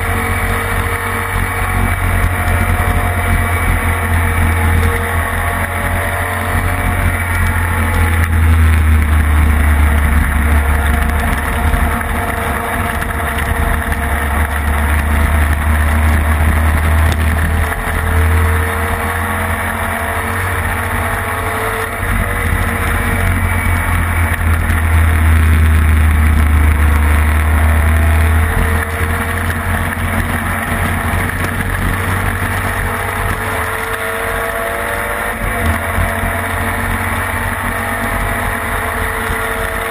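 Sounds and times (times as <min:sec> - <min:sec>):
racing sidecar engine at speed: 0:00.0 - 0:39.9.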